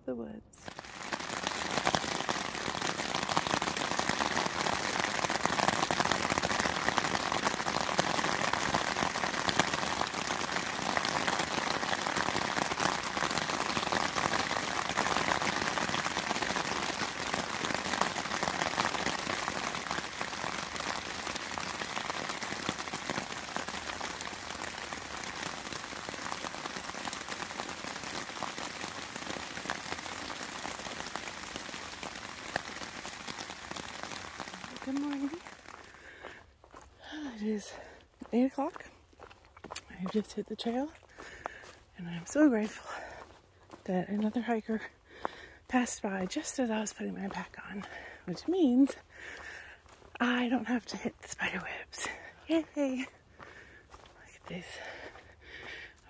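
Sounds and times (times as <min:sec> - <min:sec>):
steady rain falling: 0:00.6 - 0:56.0.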